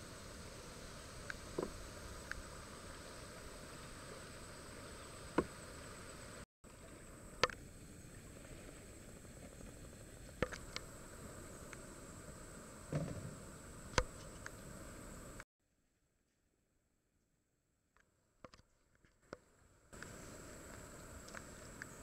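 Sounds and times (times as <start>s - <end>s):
faint steady hiss: 0.0s - 15.4s, 19.3s - 22.0s.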